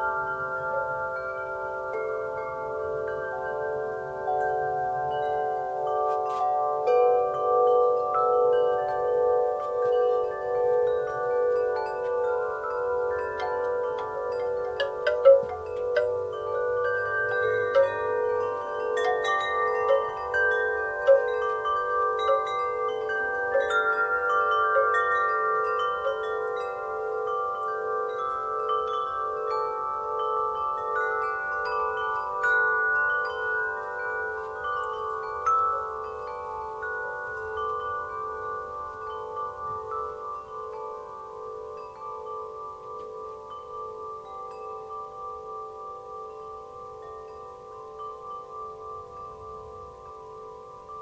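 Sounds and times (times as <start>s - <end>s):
wind chimes ringing: 0.0s - 51.0s.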